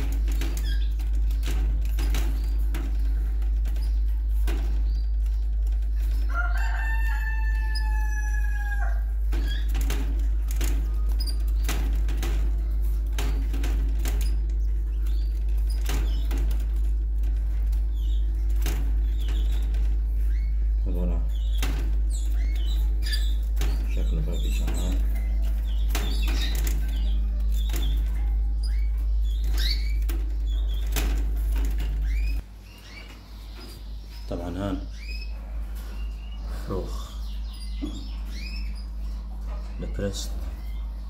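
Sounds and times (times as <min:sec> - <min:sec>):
chicks cheeping: 0:00.0 - 0:41.0
steady low hum: 0:00.0 - 0:41.0.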